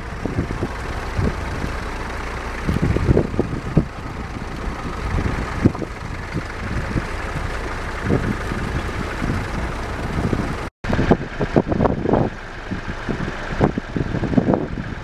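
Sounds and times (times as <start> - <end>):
distant tractor engines: 0.0 - 15.0
wind buffeting microphone: 0.0 - 15.0.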